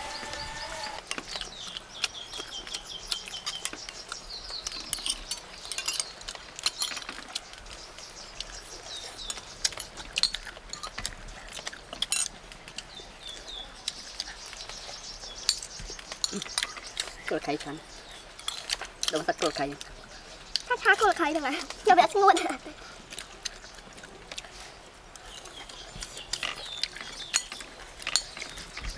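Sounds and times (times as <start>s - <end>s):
birds chirping: 0.0s - 28.9s.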